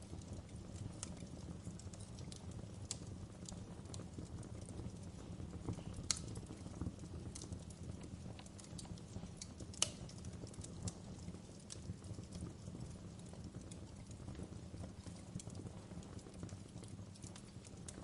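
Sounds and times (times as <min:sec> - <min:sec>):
fire pops and snaps: 0:00.0 - 0:18.0
low rumble of flames: 0:00.0 - 0:18.0.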